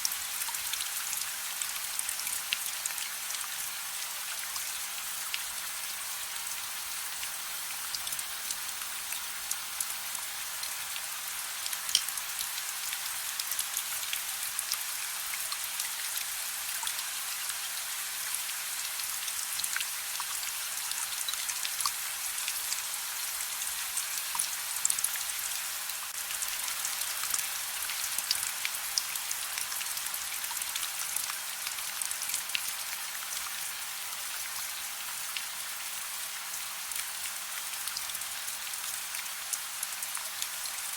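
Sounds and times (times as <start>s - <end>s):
soft rain hiss: 0.0s - 40.9s.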